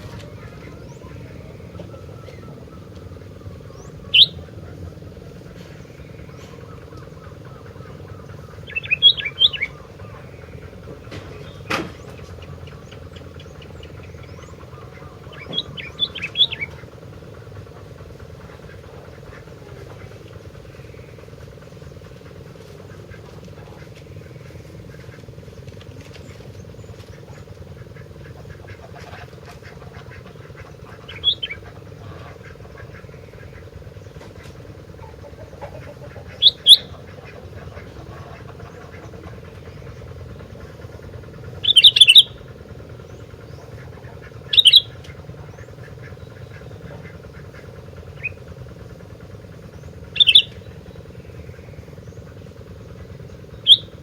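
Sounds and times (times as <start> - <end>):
bird bubbly calls: 0.0 - 25.6, 26.2 - 54.0
steady low hum: 0.0 - 54.0.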